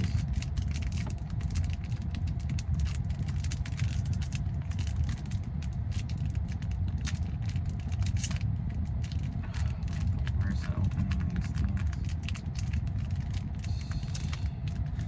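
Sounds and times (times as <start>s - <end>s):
foil wrapper crinkling: 0.0s - 15.0s
steady low rumble: 0.0s - 15.0s.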